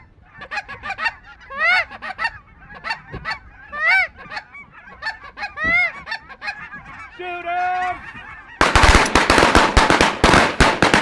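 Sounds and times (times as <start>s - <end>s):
drawn-out goose honk: 0.0s - 8.8s
goose clucking and honking: 0.0s - 9.3s.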